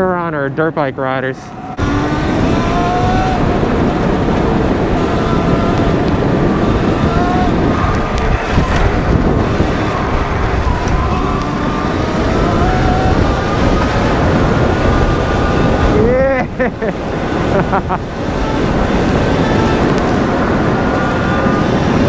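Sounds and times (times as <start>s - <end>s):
wind rushing: 0.0s - 22.0s
tyres on gravel: 1.4s - 22.0s
electric motor whine: 1.7s - 22.0s.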